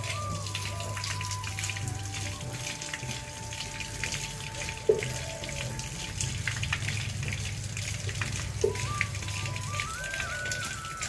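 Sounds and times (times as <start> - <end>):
soft music with held notes: 0.0 - 11.0
water trickling and dripping: 0.0 - 11.0.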